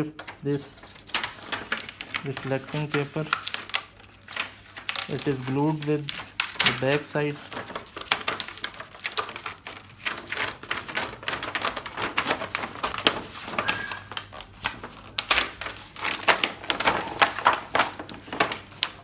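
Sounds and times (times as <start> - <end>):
adhesive sheet peeling crackle: 0.1 - 19.0.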